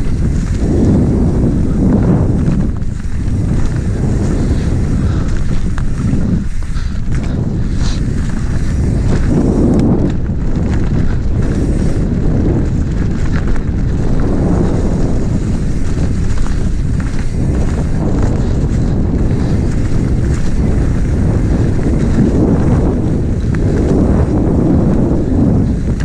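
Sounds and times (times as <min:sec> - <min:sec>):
tyres rolling on dirt trail: 0:00.0 - 0:26.0
wind buffeting microphone: 0:00.0 - 0:26.0.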